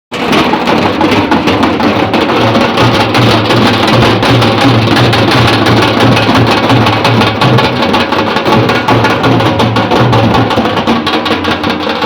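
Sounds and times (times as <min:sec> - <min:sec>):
kettledrums beating fast: 0:00.1 - 0:12.0.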